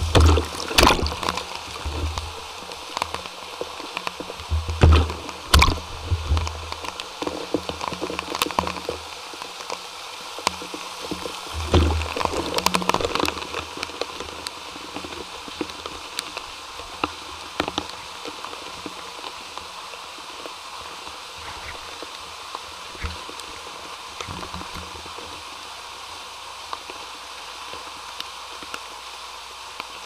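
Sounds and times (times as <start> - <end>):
sharp drips and knocks: 0.0 - 25.5
water rushing in a pipe: 0.0 - 30.0.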